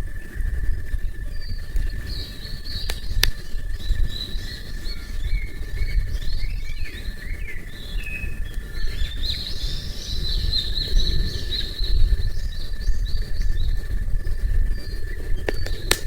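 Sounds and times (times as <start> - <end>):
small birds chirping: 0.0 - 16.0
wind rumble on microphone: 0.0 - 16.0.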